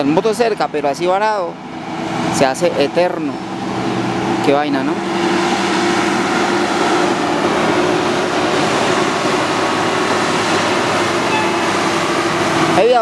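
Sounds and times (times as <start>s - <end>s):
truck diesel engine: 0.0s - 13.0s.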